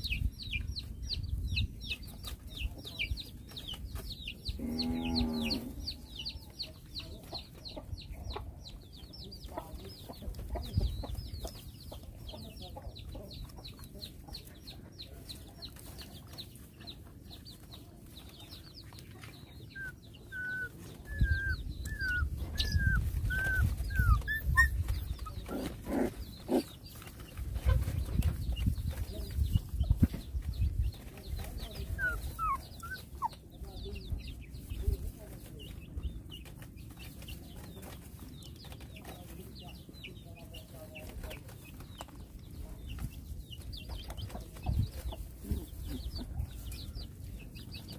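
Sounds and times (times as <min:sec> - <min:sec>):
chicks peeping: 0:00.0 - 0:47.9.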